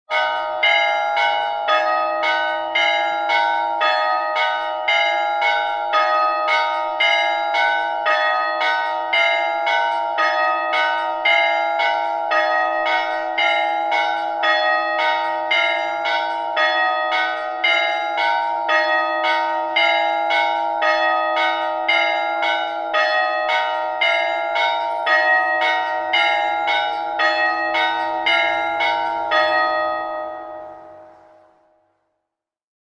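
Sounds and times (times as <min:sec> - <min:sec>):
church bells ringing a peal: 0:00.1 - 0:31.6.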